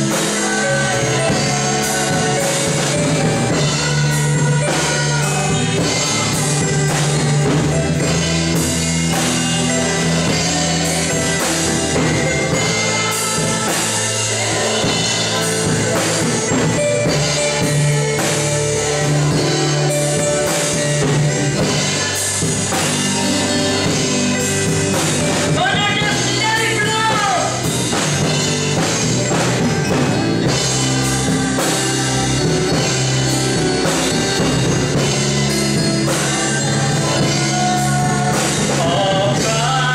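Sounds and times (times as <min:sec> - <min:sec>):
drum kit beat: 0:00.0 - 0:39.9
worship music: 0:00.0 - 0:39.9.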